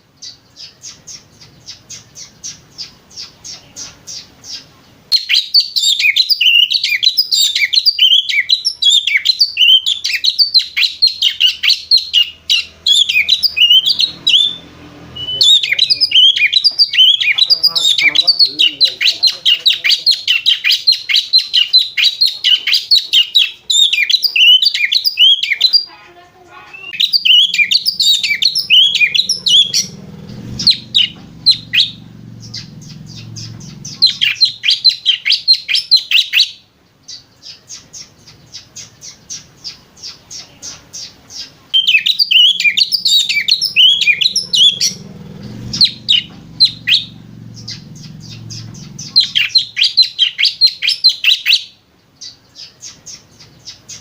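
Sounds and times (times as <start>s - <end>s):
bird chattering chirps: 0.2s - 54.0s.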